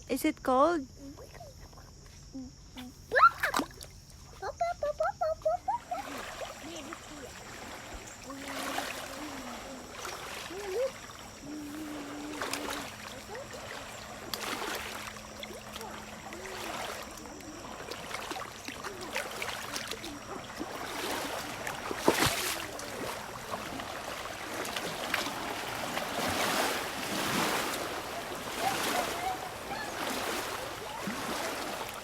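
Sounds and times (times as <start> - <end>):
lake water splashing: 2.9 - 32.0.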